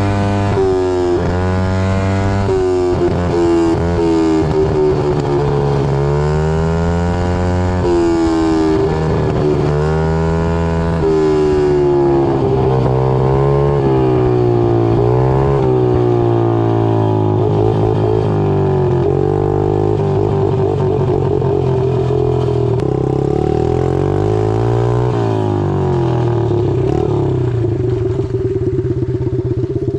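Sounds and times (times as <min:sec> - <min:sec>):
loud pit bike engine revving: 0:00.0 - 0:29.9.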